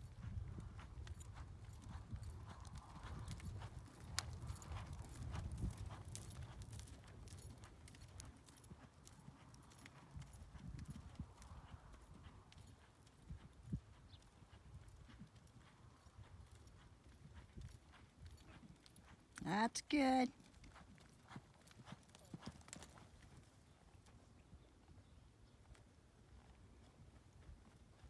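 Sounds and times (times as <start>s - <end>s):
horse hoofbeats on sand: 0.0s - 24.2s.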